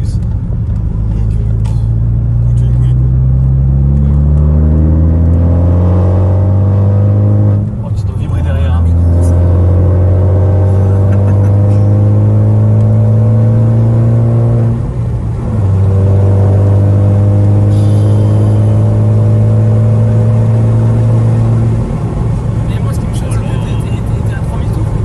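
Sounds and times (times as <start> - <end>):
car engine and exhaust accelerating: 0.0 - 25.0.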